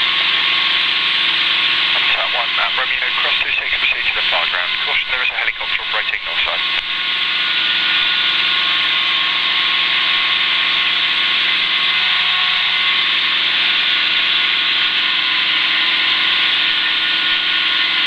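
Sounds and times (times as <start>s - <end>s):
helicopter engine and rotors: 0.0s - 18.0s.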